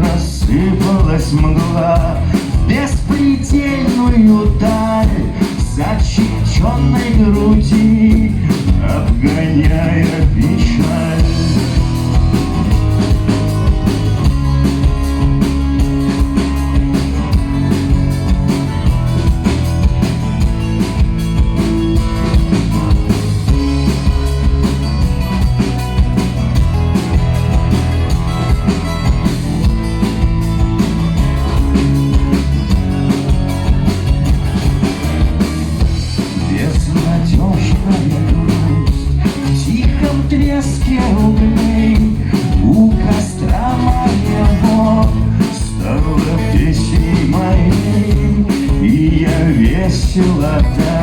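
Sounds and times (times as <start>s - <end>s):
rock band playing instrumental: 0.0s - 51.0s.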